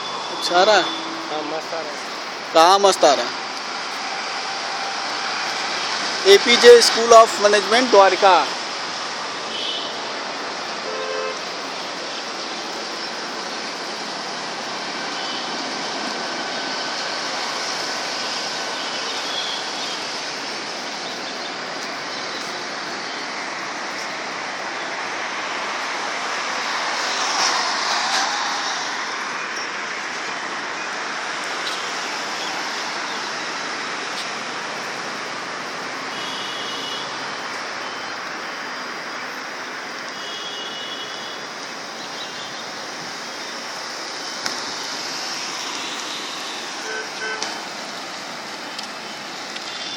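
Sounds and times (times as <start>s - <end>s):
road and traffic noise: 0.0s - 49.9s.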